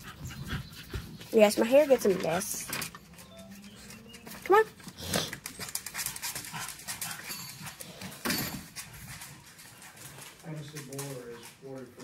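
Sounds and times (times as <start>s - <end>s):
dog panting: 0.0s - 2.6s, 3.6s - 10.6s.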